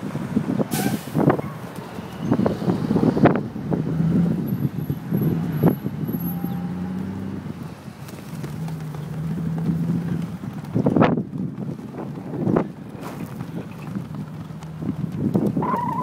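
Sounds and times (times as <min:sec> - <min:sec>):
wind on microphone: 0:00.0 - 0:06.6, 0:09.4 - 0:16.0
vehicle engine humming: 0:00.0 - 0:16.0.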